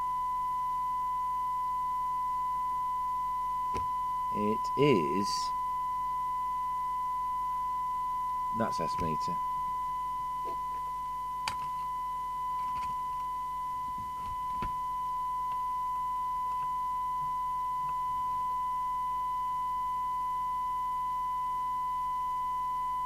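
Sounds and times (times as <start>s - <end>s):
steady test tone from loudspeaker: 0.0s - 23.0s.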